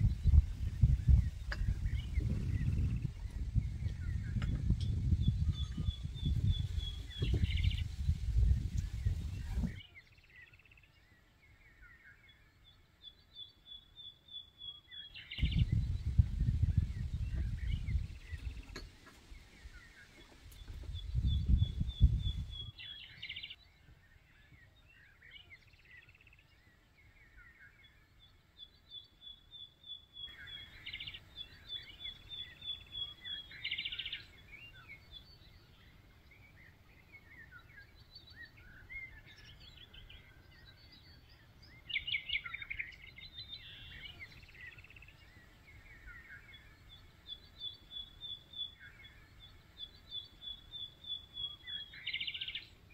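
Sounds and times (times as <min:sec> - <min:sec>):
birds chirping and trilling: 0:00.0 - 0:52.9.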